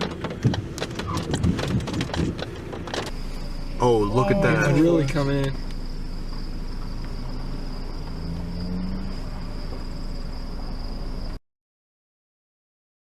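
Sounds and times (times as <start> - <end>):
insects chirring: 0.0 - 11.4
low rumble: 0.4 - 11.4.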